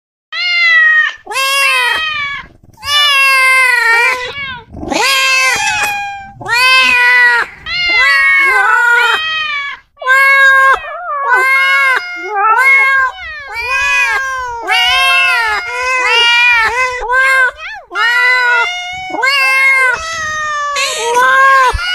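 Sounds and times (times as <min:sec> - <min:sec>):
cats meowing: 0:00.3 - 0:21.9.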